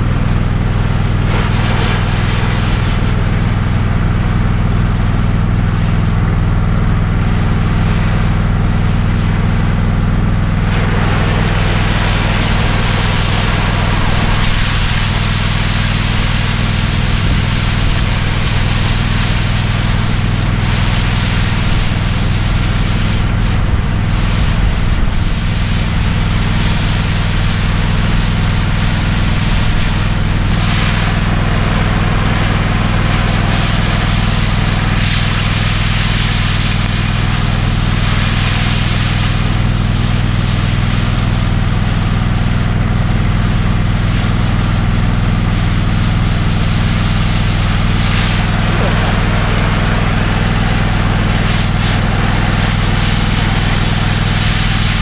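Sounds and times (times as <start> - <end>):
cutting torch hissing: 0.0 - 55.0
engine running: 0.0 - 55.0.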